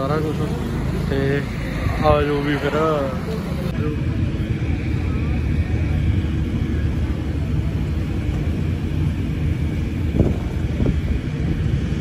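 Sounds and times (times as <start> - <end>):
engine running rumble: 0.0 - 12.0.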